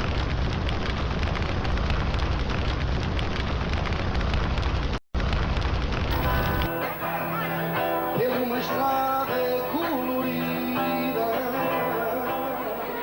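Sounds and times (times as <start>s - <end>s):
loud crackling with clicks: 0.0s - 13.0s.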